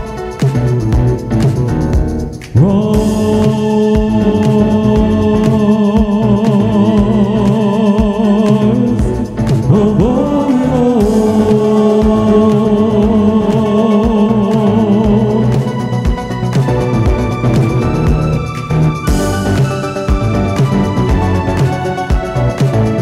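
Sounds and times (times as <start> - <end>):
steady music beat: 0.0 - 23.0
person singing: 2.4 - 23.0.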